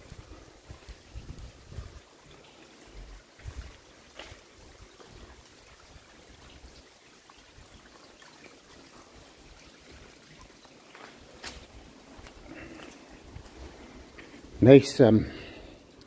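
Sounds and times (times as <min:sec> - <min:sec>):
water trickling in rock crevice: 0:00.0 - 0:16.0.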